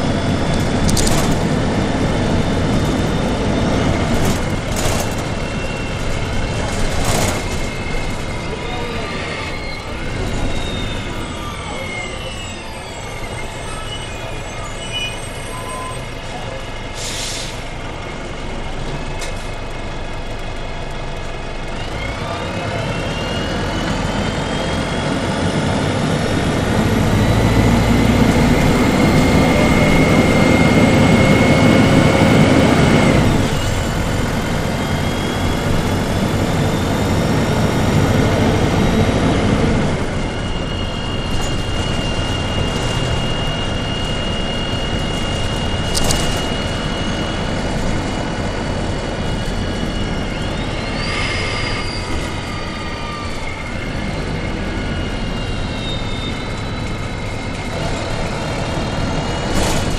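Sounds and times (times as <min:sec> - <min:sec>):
transmission whine: 0:00.0 - 0:16.2, 0:23.1 - 0:59.9
bus engine accelerating: 0:00.0 - 0:59.9.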